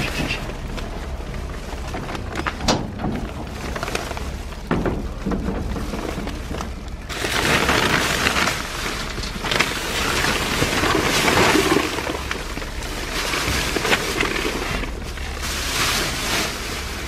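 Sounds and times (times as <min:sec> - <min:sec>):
plastic bags rustling: 0:00.0 - 0:17.0
steady low rumble: 0:00.0 - 0:17.0.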